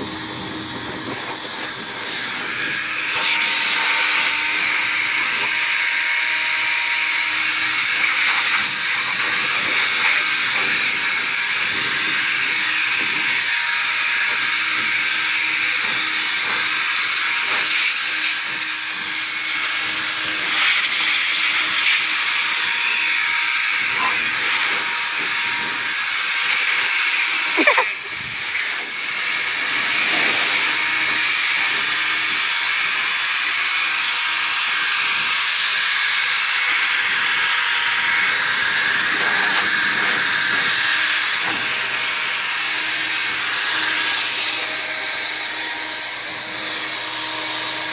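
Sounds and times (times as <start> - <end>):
leaf blower running: 0.0 - 47.9.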